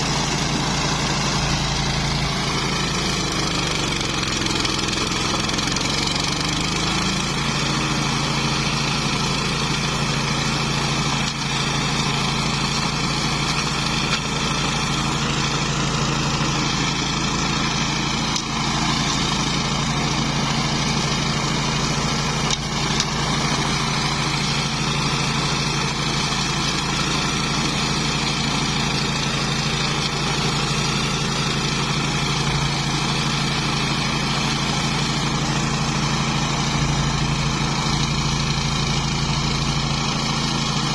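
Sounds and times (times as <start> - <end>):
mower engine running: 0.0 - 40.9.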